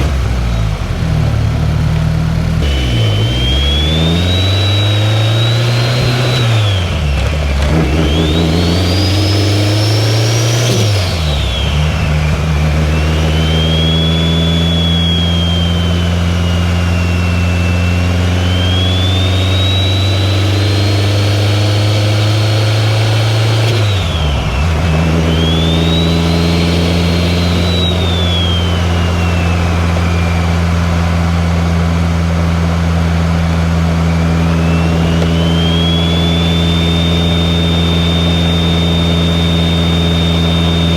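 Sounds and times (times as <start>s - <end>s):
car engine while driving: 0.0s - 40.9s
high turbo whistle: 2.6s - 40.9s.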